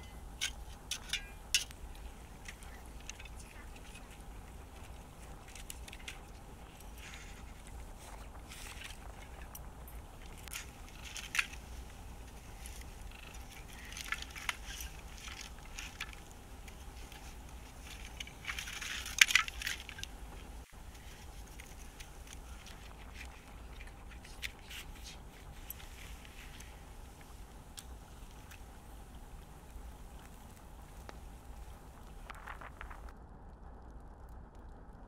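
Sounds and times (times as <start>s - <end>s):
stones scraping and knocking on gravel: 0.4s - 33.1s.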